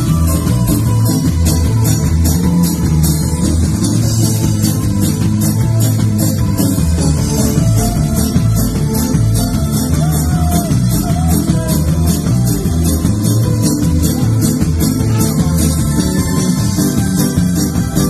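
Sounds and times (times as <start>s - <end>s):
electric guitar: 0.0s - 18.0s
keyboard: 0.0s - 18.0s
strong bass line: 0.0s - 18.0s.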